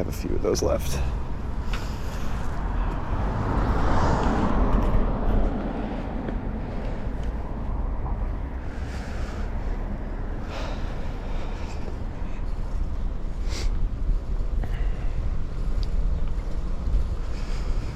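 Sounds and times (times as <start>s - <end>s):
road noise: 0.0s - 17.9s.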